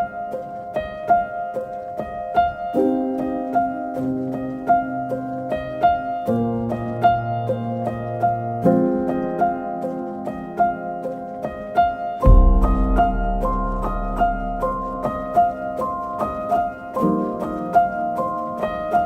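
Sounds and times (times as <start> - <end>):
light piano-like melody: 0.0 - 19.0.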